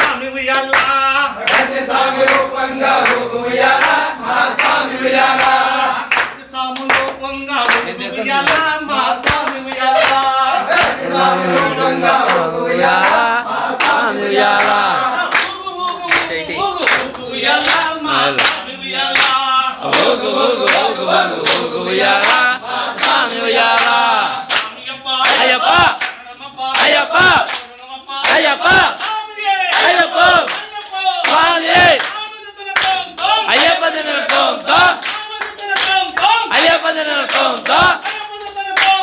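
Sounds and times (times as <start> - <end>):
men singing in unison: 0.0 - 32.1, 33.0 - 39.0
hand claps: 0.0 - 39.0.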